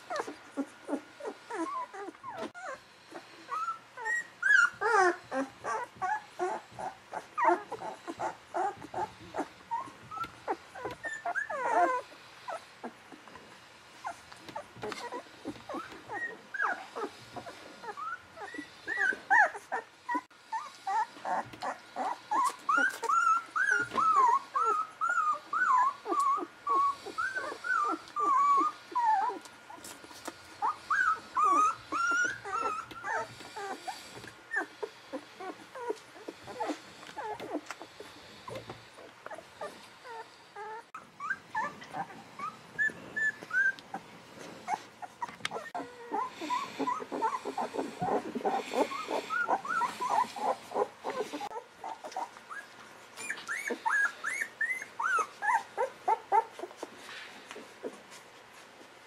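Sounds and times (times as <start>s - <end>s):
puppies squeaking and whimpering: 0.0s - 13.3s, 14.0s - 58.2s.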